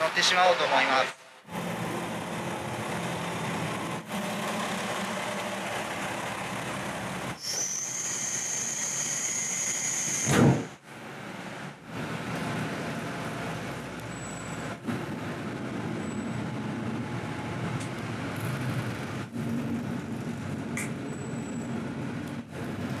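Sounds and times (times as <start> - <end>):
diesel railcar idling: 1.2 - 23.0.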